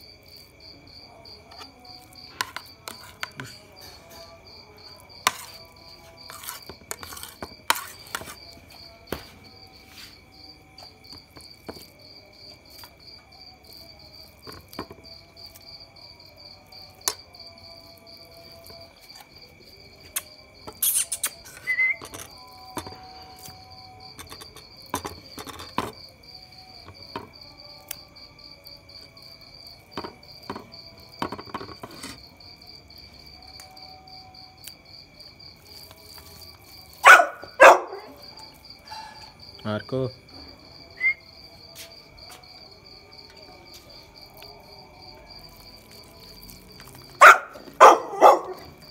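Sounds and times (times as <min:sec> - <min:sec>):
insect trill: 0:00.0 - 0:48.9.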